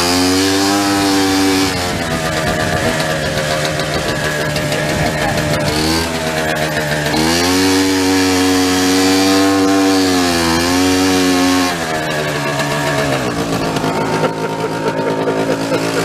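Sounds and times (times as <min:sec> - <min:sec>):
small cart engine revving: 0:00.0 - 0:16.0.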